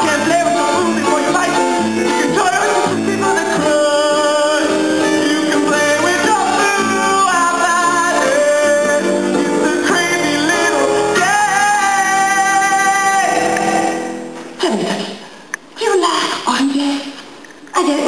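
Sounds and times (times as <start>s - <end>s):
man singing: 0.0s - 15.0s
instrumental backing: 0.0s - 15.7s.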